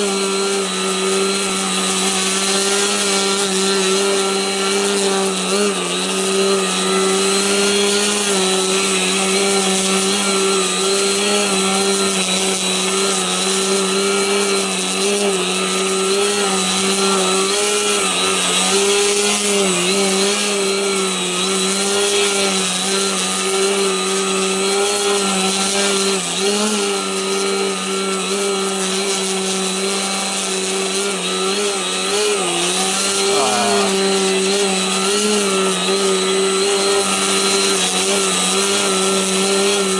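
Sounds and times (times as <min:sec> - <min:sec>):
model plane propeller buzzing: 0:00.0 - 0:39.9.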